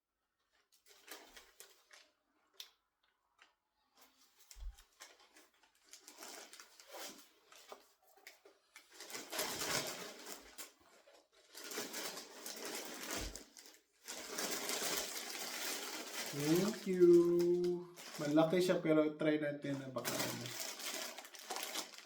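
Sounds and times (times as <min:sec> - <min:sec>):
rustling gift packaging: 0:00.4 - 0:19.0, 0:19.6 - 0:22.0.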